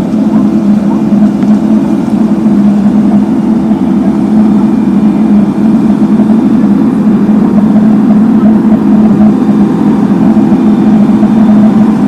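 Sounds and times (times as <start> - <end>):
heavy diesel engine droning: 0.0 - 12.0.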